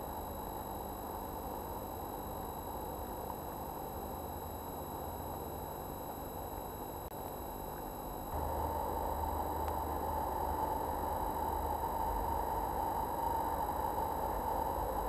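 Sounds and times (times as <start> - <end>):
faint thin high whines: 0.0 - 15.0
steady hiss and low hum: 0.0 - 15.0.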